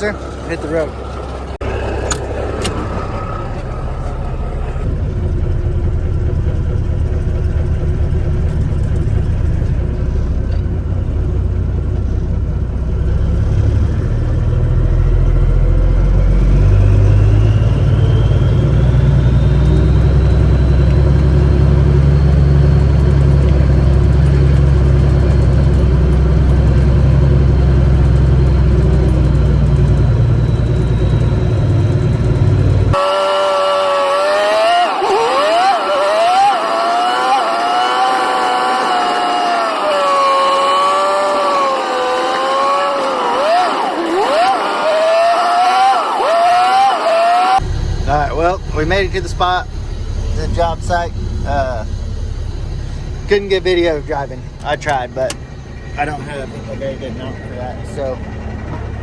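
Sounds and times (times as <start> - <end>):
heavy diesel engine running: 0.0 - 59.0
high whine: 0.0 - 59.0.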